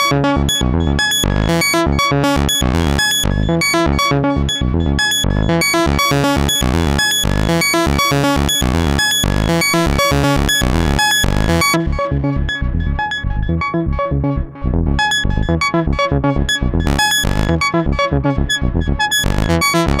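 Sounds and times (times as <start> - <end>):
synthesizer sequence with echo: 0.0 - 20.0.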